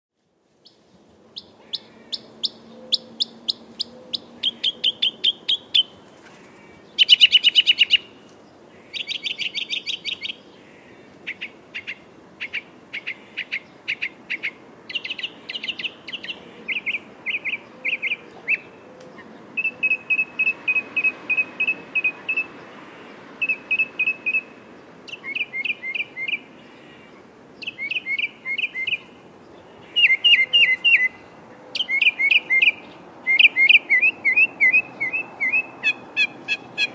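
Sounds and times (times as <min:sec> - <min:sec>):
mockingbird singing: 0:00.6 - 0:22.8, 0:23.4 - 0:36.9.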